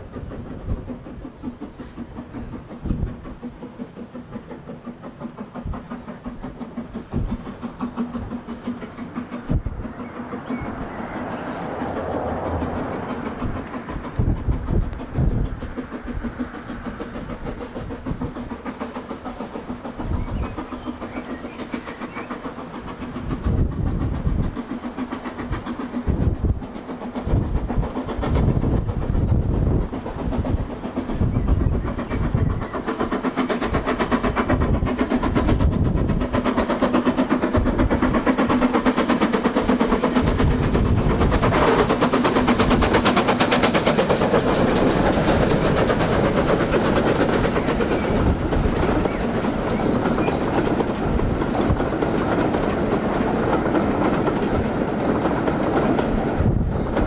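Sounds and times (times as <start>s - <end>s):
steam locomotive and train running: 0.0s - 57.0s.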